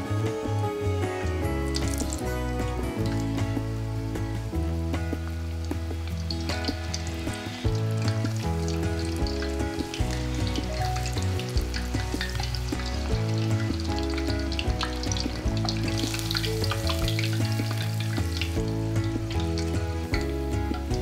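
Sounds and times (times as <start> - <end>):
background music: 0.0 - 21.0
chicken deep-frying in hot oil: 0.0 - 21.0.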